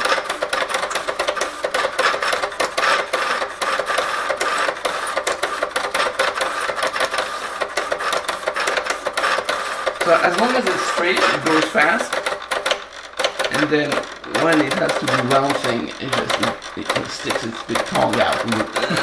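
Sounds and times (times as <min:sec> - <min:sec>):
pen plotter whirring: 0:00.0 - 0:19.0
rapid clicking: 0:00.0 - 0:19.0.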